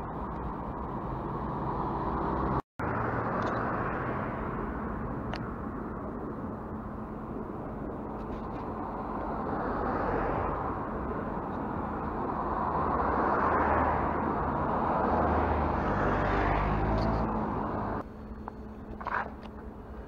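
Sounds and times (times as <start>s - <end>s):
cars passing close by: 0.0s - 5.4s, 8.6s - 19.6s.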